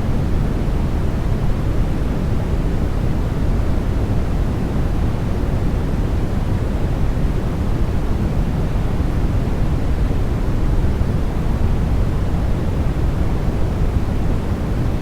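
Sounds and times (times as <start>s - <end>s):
steady white noise hiss: 0.0s - 15.0s.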